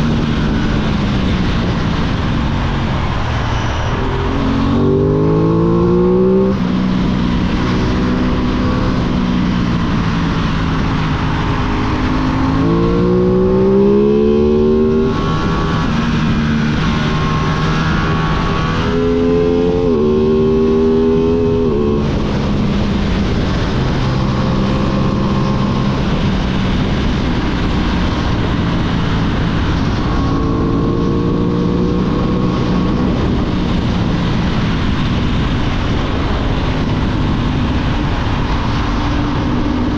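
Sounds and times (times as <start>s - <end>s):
constant broad noise: 0.0s - 39.9s
motorcycle engine revving: 0.0s - 39.9s.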